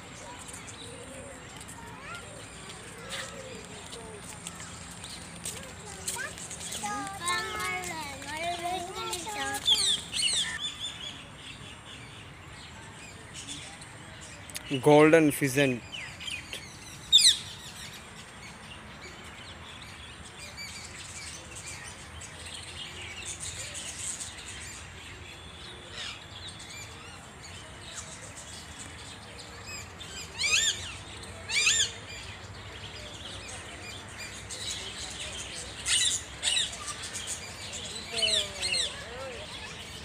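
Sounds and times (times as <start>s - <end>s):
birds chirping and twittering: 0.0s - 40.0s.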